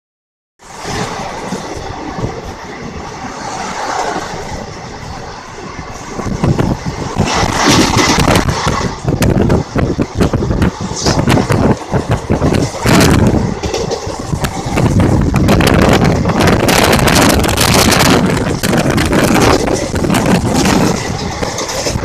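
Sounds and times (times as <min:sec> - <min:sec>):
rushing air: 0:00.6 - 0:22.0
train wheels rumbling on rails: 0:00.6 - 0:22.0.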